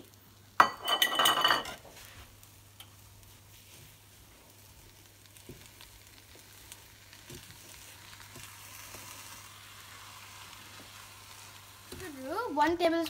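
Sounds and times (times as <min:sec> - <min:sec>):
food faintly sizzling in pan: 0:00.0 - 0:13.0.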